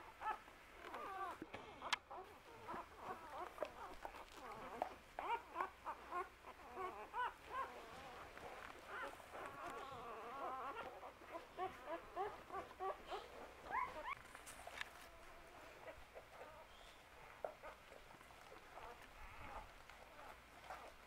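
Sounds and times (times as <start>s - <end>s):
puppies squeaking and whining: 0.2s - 21.0s.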